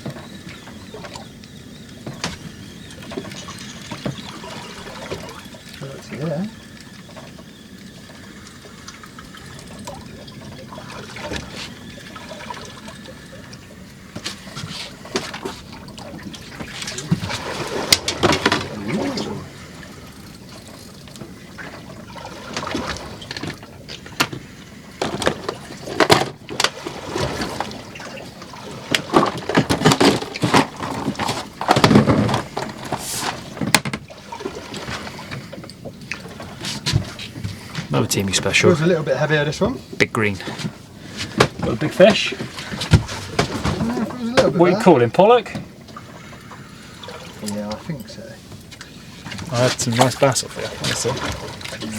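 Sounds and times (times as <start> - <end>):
water splashing against boat: 0.0 - 51.9.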